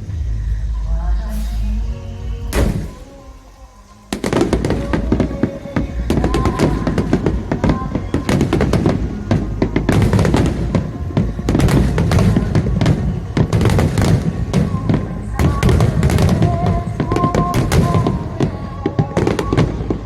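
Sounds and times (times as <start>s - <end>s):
music playing: 0.0s - 20.0s
fireworks bursts and booms: 2.5s - 20.0s.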